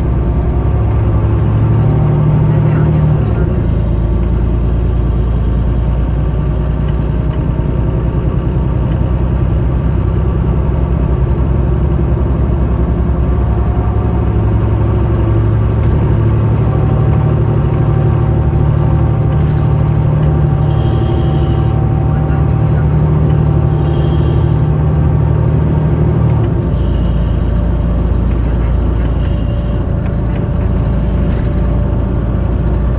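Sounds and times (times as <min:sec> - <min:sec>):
bus rumble from inside: 0:00.0 - 0:32.9.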